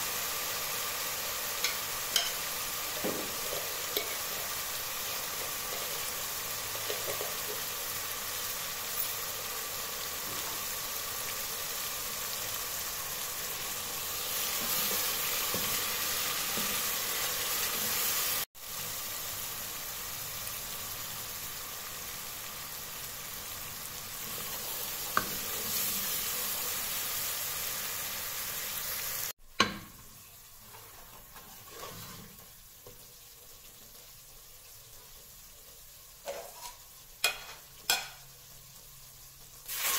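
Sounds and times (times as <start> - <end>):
sauce sizzling in a pot: 0.0 - 39.9.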